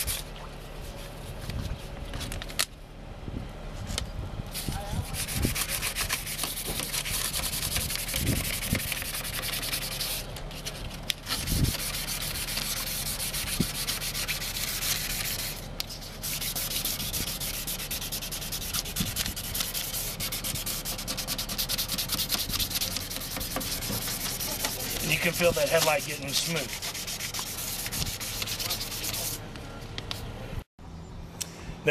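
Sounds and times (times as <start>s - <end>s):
sandpaper rubbing on plastic: 0.0s - 2.3s, 4.5s - 29.4s.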